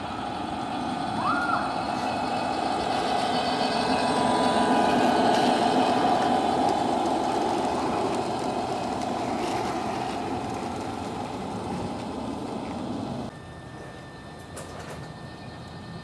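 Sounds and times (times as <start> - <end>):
model train rumbling: 0.0 - 16.0.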